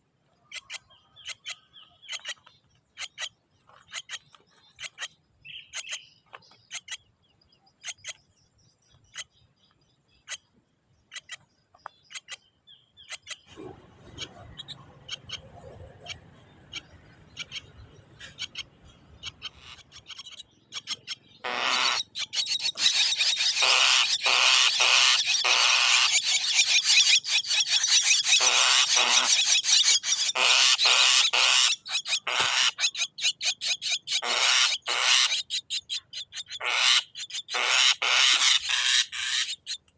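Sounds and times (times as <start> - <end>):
birds chirping and clicking: 0.2 - 39.9
harsh pulsed bird chattering: 0.4 - 9.5, 10.1 - 39.9.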